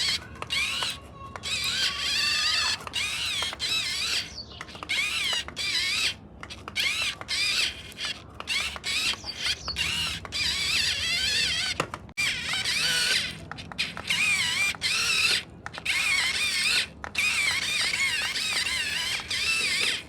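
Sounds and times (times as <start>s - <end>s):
toy electric motors whining: 0.0s - 20.0s.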